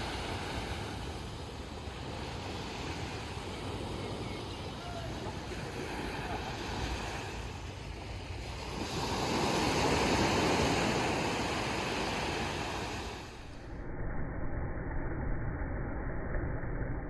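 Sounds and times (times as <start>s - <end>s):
waves breaking on beach: 0.0s - 13.7s.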